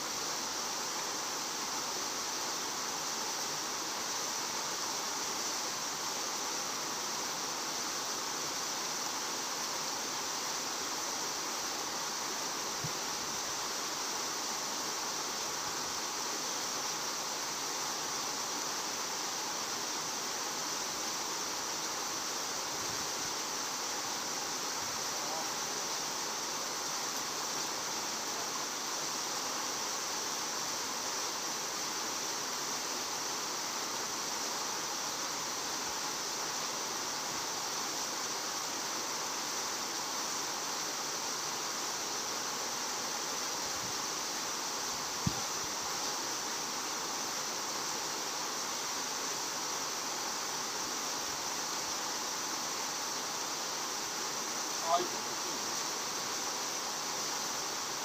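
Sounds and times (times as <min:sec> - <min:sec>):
water flowing in a channel: 0:00.0 - 0:58.0.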